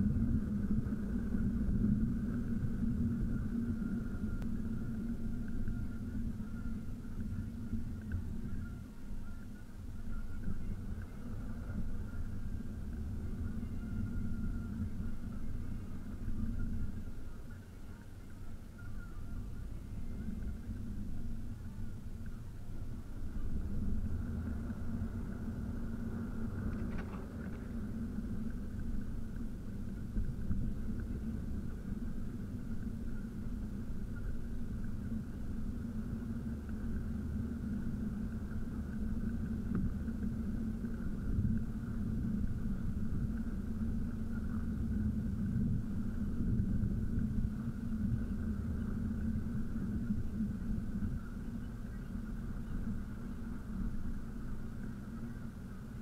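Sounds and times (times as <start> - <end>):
car driving in traffic: 0.0 - 56.0.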